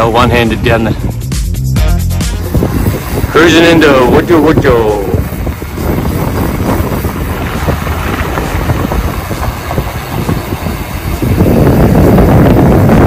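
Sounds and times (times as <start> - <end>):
bike tyres rumbling on road: 2.3 - 13.0
wind buffeting microphone: 2.3 - 13.0.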